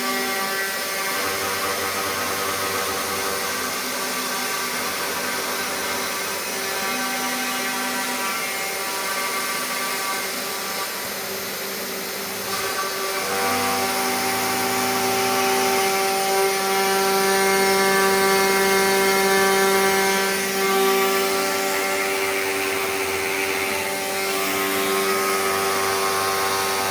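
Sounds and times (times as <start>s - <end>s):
router spindle whine: 0.0s - 26.9s.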